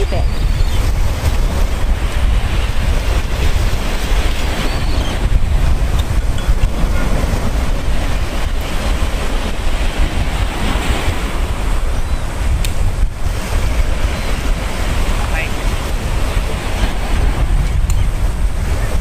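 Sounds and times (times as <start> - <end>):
waves washing onto pebbly shore: 0.0 - 19.0.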